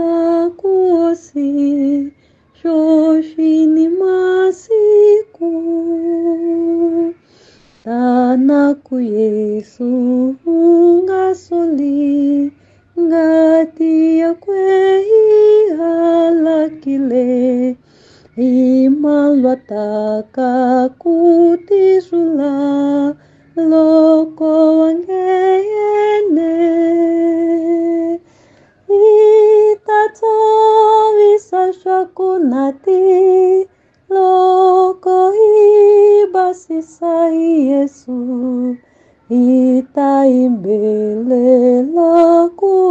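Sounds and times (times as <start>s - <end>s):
woman singing a hymn solo: 0.0s - 42.9s.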